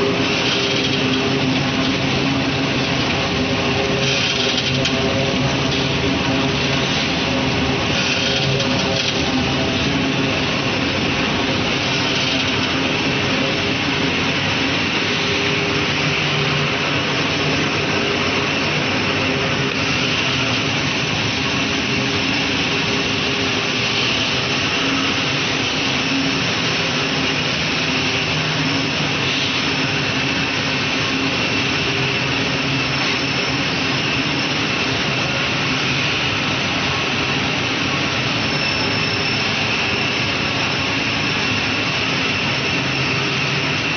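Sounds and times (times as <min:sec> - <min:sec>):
rushing machine noise: 0:00.0 - 0:43.9.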